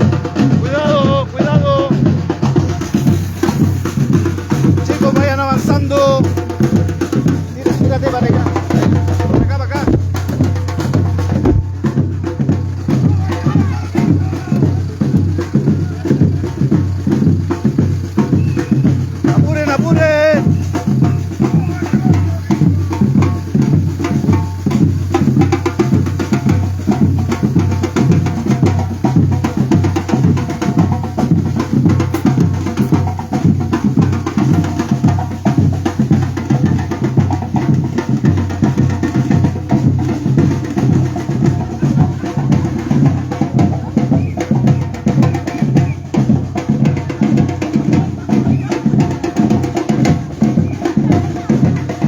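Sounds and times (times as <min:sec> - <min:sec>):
drum group playing: 0:00.0 - 0:52.0.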